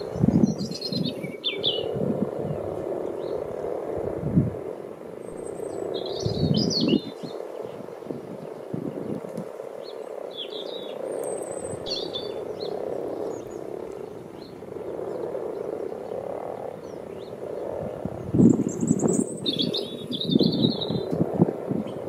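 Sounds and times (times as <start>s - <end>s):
small birds chirping: 0.0s - 3.9s, 5.2s - 22.0s
frogs croaking: 0.0s - 22.0s
wind buffeting microphone: 0.0s - 22.0s.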